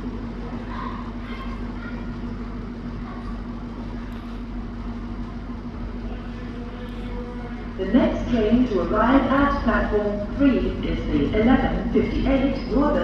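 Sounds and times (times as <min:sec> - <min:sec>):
train steady hum: 0:00.0 - 0:13.0.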